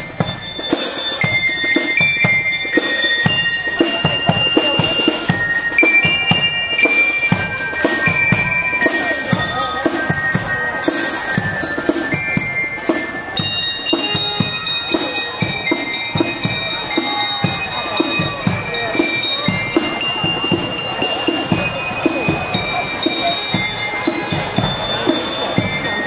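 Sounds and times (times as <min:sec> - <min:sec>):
bell-like ringing melody: 0:00.0 - 0:26.0
drums beating: 0:00.0 - 0:26.0
marching band playing: 0:00.0 - 0:26.0.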